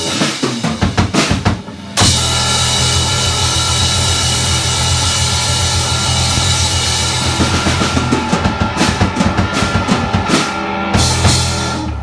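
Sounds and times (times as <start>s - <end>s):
bass guitar: 0.0s - 12.0s
drum kit strikes: 0.0s - 12.0s
electric guitar: 0.0s - 12.0s.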